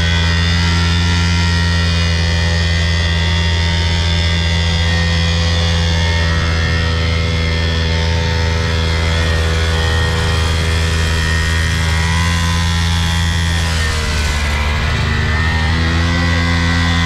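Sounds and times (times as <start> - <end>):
small two-stroke engine droning: 0.0 - 17.0.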